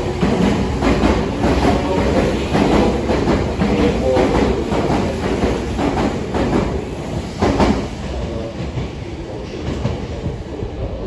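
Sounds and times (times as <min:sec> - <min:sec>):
train wheels clacking over joints: 0:00.0 - 0:10.4.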